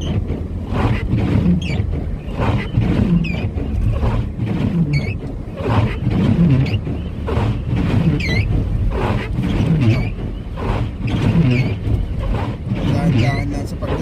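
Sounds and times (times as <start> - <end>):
engine and tyres rumble: 0.0 - 14.0.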